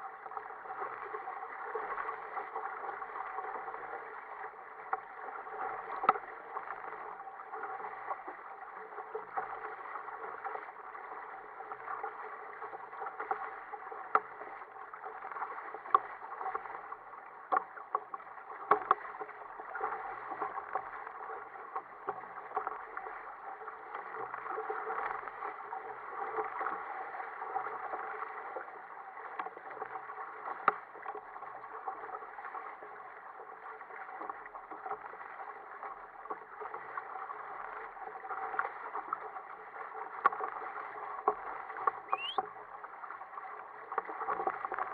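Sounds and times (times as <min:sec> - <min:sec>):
water rushing along a hull: 0:00.0 - 0:44.9.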